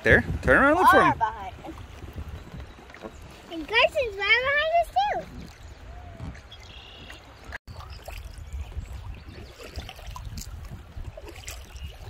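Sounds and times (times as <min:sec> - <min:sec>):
river water trickling and splashing: 0:00.0 - 0:12.0
small paddle splashes: 0:01.5 - 0:12.0.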